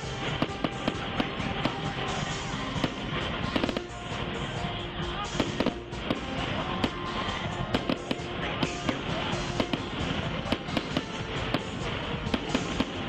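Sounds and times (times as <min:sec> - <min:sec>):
fireworks cracks and bangs: 0:00.0 - 0:13.0
music playing: 0:00.0 - 0:13.0.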